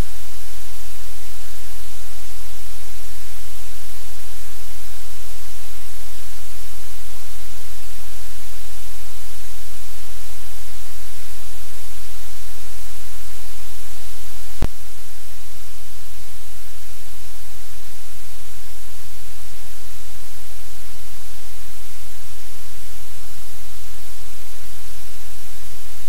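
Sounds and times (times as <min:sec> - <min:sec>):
static hiss: 0:00.0 - 0:26.0.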